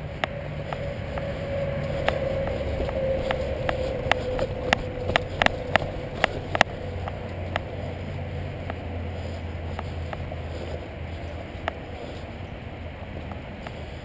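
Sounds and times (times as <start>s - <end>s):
wind on the microphone: 0.0s - 14.0s
footsteps crunching on dirt trail: 0.2s - 14.0s.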